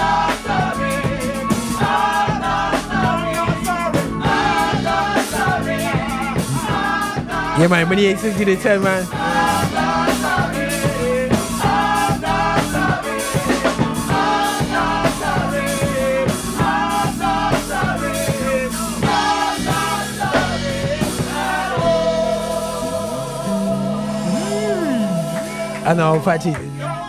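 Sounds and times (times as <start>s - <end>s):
drum kit beat: 0.0s - 26.9s
church band playing: 0.0s - 27.0s
gospel choir singing: 0.0s - 27.0s.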